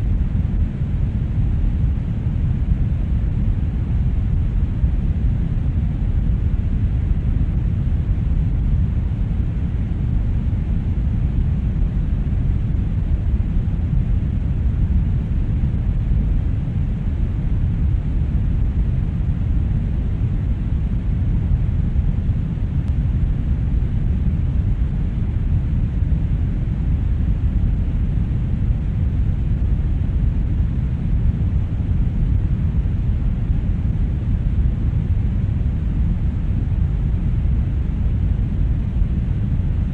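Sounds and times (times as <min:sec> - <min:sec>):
brown noise rumbling hiss: 0:00.0 - 0:39.9.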